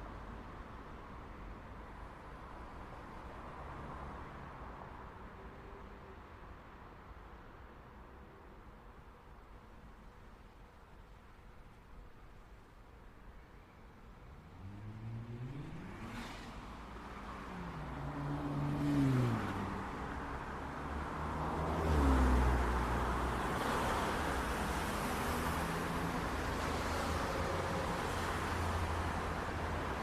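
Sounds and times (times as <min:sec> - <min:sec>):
low rumble of traffic: 0:00.0 - 0:30.0.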